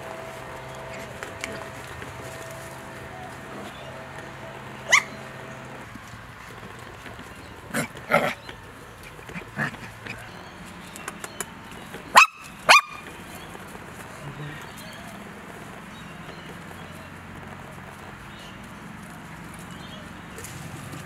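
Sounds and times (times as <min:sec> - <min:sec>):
puppies yipping and barking: 0:00.0 - 0:21.0.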